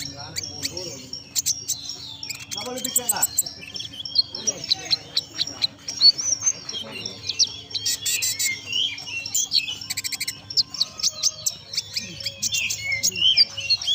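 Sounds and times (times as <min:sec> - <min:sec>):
songbird singing: 0:00.0 - 0:13.9.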